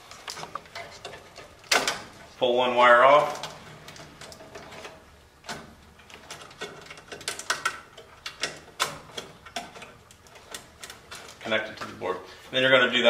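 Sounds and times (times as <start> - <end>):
wires rustling: 0.0 - 13.0.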